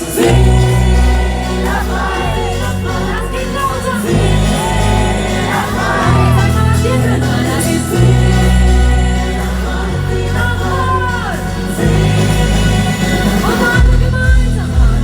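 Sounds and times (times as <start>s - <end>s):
live pop band music: 0.0s - 15.0s.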